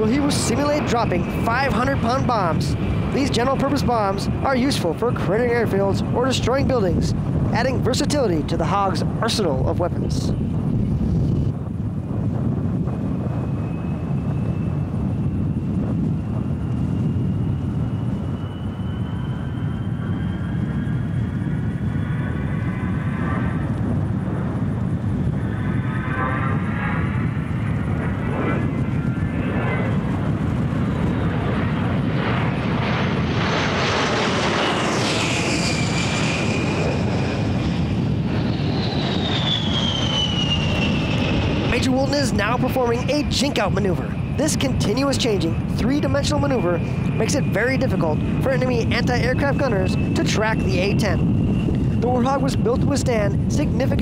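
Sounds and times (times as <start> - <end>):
high jet whine: 0.0 - 54.0
jet engines rumbling in flight: 0.0 - 54.0.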